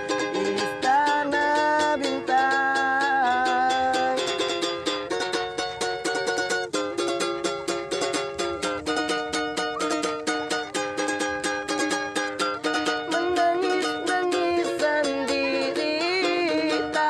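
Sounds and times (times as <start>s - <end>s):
held melody with sliding notes: 0.0s - 17.0s
ukulele strumming: 0.0s - 17.0s.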